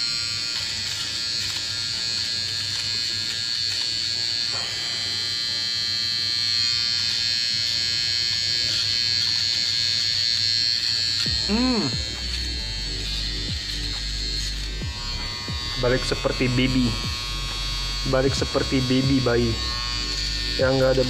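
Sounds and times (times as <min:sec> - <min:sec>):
nose hair trimmer whining: 0:00.0 - 0:21.0.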